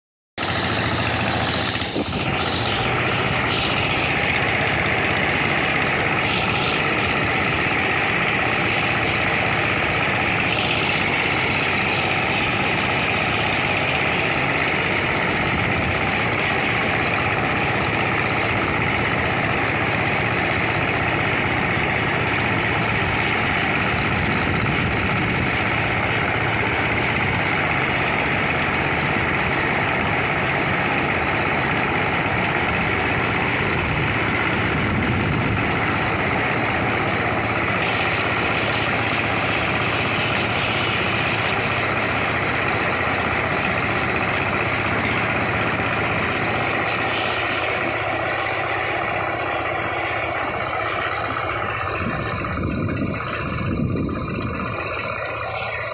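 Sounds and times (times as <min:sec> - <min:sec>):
hand tractor diesel engine running: 0:00.4 - 0:55.9.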